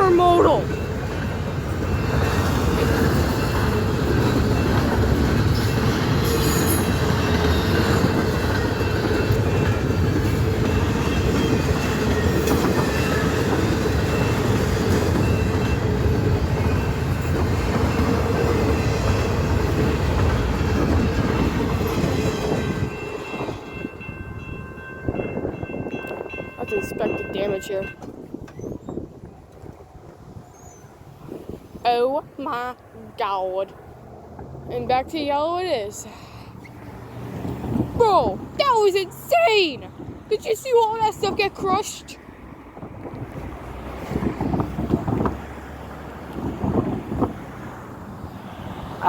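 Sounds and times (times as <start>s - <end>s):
freight train wheels on rails: 0.0s - 49.0s.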